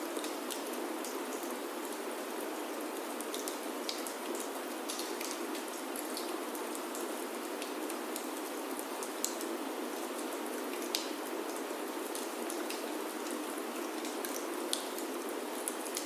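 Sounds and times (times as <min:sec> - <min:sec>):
rain on a wooden roof: 0:00.0 - 0:16.0.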